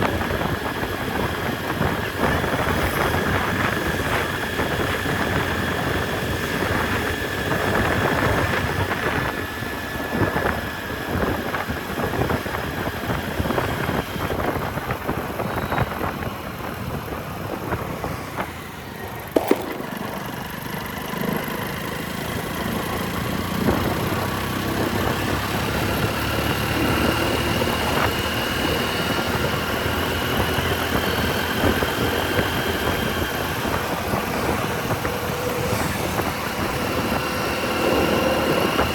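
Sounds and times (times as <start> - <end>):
motorcycle engine running: 0.0 - 38.9
road and traffic noise: 0.0 - 38.9.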